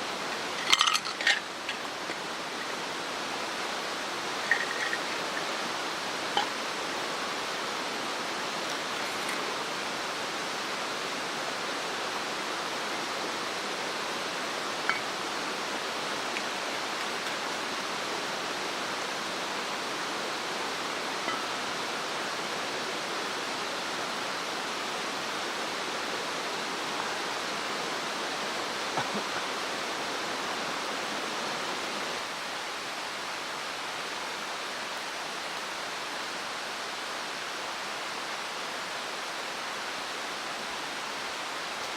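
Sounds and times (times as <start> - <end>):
stream rushing: 0.0 - 41.9.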